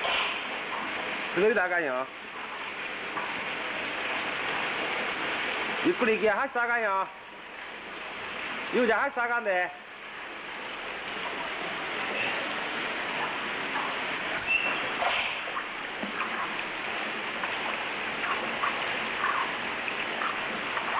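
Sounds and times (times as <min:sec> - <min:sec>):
water pouring into pool: 0:00.3 - 0:06.2, 0:09.8 - 0:20.9.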